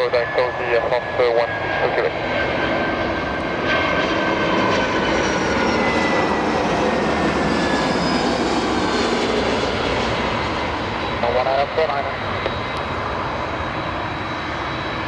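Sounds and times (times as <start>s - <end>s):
jet engines roaring overhead: 0.0s - 15.0s.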